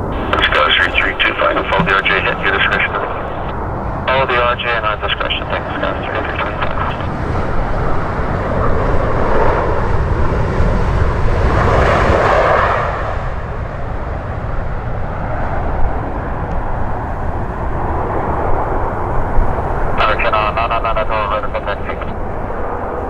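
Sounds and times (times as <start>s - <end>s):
jet airliner engine roar: 0.0s - 23.0s.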